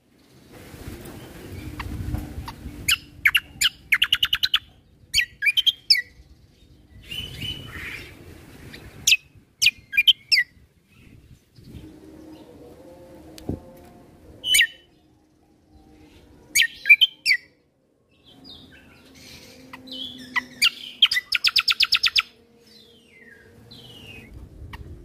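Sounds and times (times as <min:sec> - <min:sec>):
bird chirping and trilling: 0:01.5 - 0:12.6, 0:14.4 - 0:25.0.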